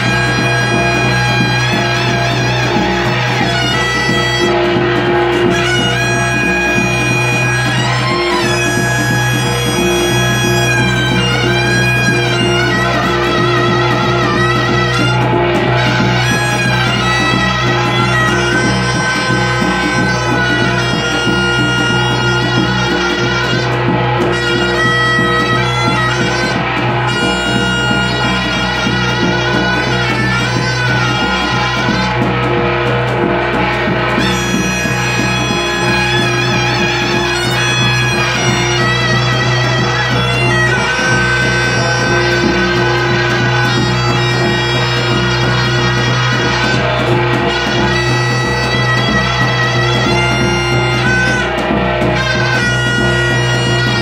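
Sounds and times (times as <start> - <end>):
low drone: 0.0 - 54.0
reedy wind instrument melody: 0.0 - 54.0.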